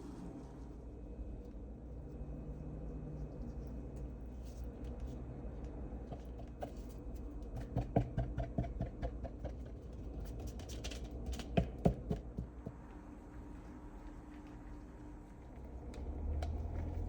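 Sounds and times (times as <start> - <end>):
low steady hum: 0.0 - 8.2, 9.6 - 17.0.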